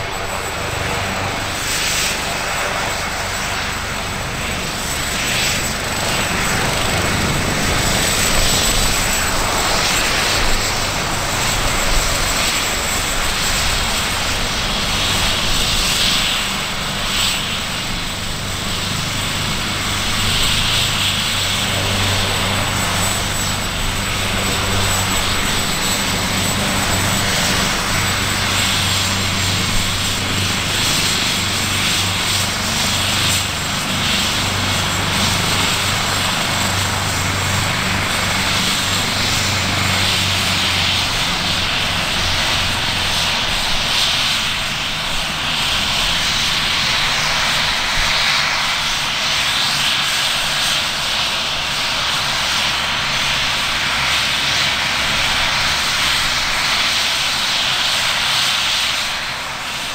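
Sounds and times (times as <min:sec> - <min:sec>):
helicopter rotor hum: 0:00.0 - 0:59.9
high turbine whine: 0:00.0 - 0:59.9.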